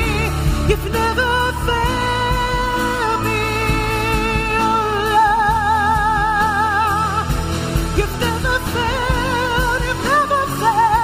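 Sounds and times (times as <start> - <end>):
low band accompaniment: 0.0 - 11.0
person singing with vibrato: 0.0 - 11.0.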